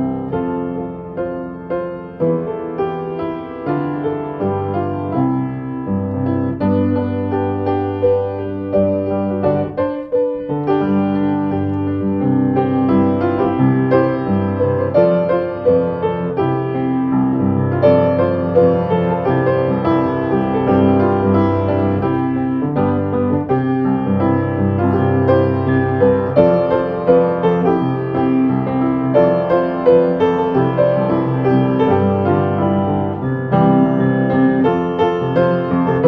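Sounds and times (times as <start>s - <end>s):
gentle piano music: 0.0s - 36.0s.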